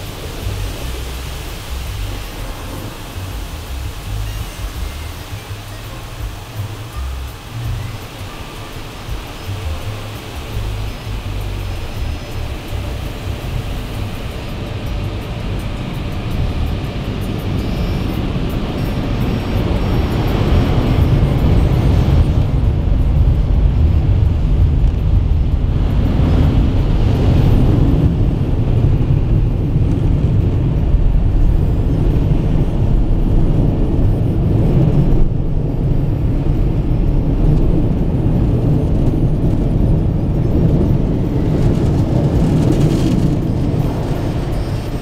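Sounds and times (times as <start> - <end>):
low rumble inside car cabin: 0.0 - 45.0.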